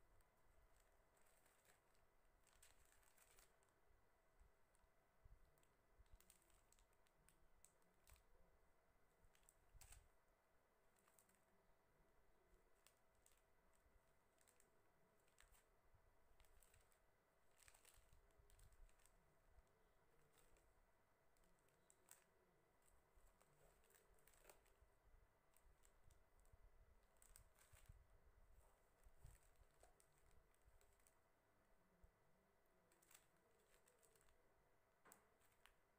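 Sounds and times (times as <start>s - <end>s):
plastic packets clicking and crinkling: 0.6s - 3.8s, 5.4s - 8.4s, 9.2s - 10.2s, 12.6s - 31.2s, 32.8s - 35.9s.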